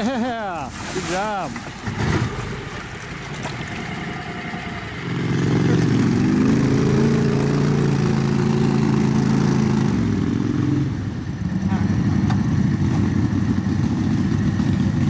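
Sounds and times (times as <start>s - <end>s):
atv engine running under load: 1.2s - 15.0s.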